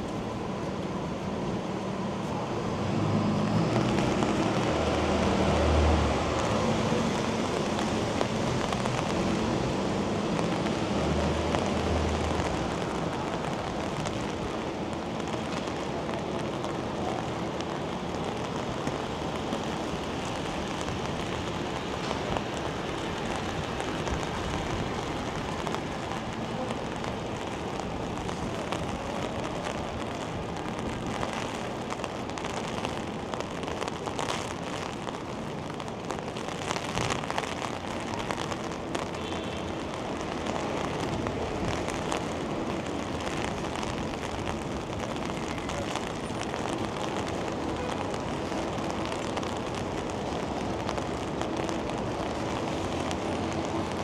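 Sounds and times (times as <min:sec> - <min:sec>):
rain hissing: 0:00.0 - 0:54.0
wet city traffic: 0:00.0 - 0:54.0.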